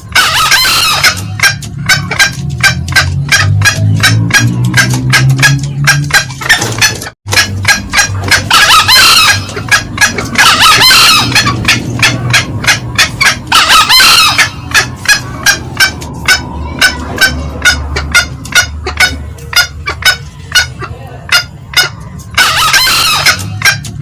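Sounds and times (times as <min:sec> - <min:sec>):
hen cackles: 0:00.0 - 0:24.0.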